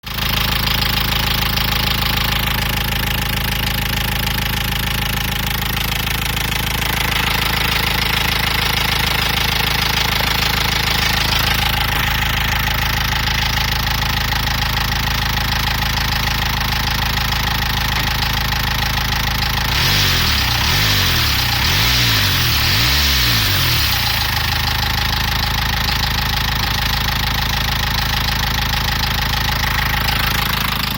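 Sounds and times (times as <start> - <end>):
car engine knocking: 0.0 - 30.9.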